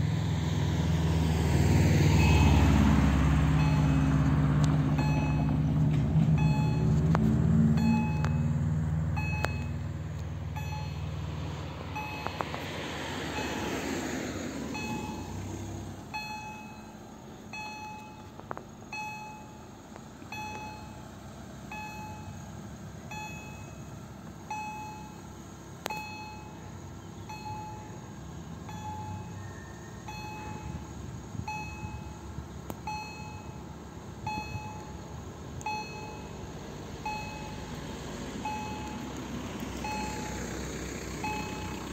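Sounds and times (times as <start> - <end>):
level-crossing warning bell: 2.1 - 9.9, 10.5 - 11.2, 11.9 - 12.5, 13.3 - 14.1, 14.7 - 37.8, 38.4 - 39.2, 39.8 - 41.9.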